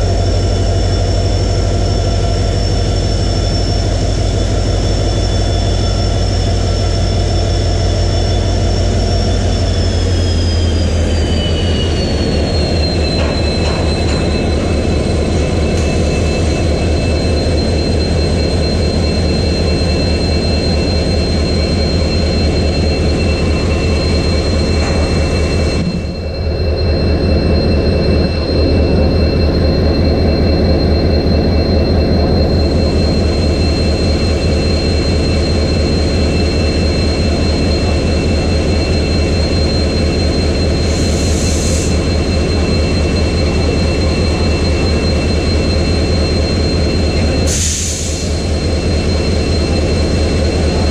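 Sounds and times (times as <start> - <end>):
diesel locomotive engine idling: 0.0 - 50.9.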